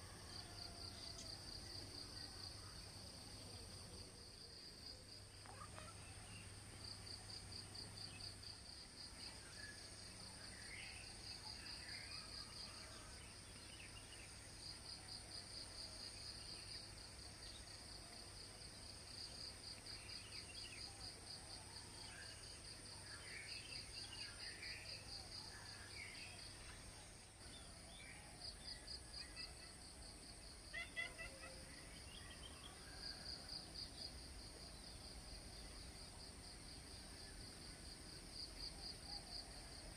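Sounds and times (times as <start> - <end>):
insects chirring in trills: 0.0 - 39.9.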